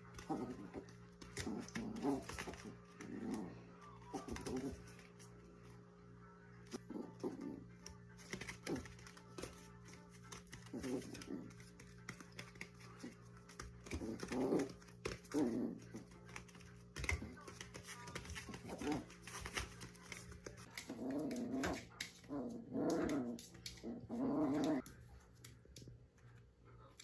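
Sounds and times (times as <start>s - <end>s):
puppy growling: 0.0s - 5.3s, 6.7s - 24.9s.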